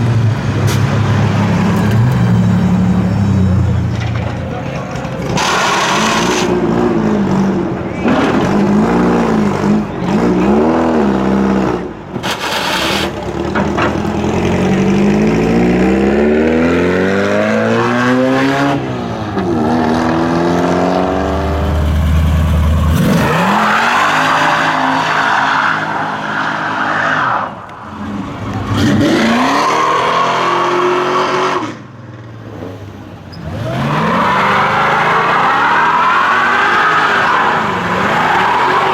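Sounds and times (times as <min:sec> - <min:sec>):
car engine revving: 0:03.7 - 0:38.9.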